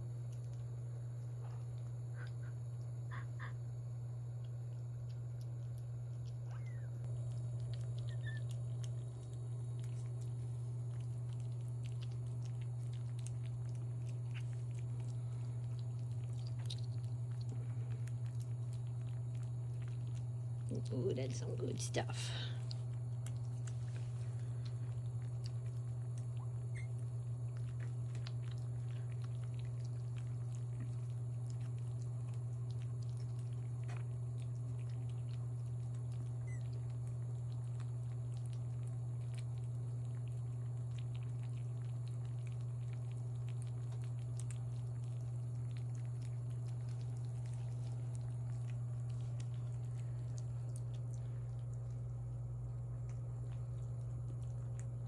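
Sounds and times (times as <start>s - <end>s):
kittens chewing and lapping: 0.0s - 55.0s
steady low hum: 0.0s - 55.0s.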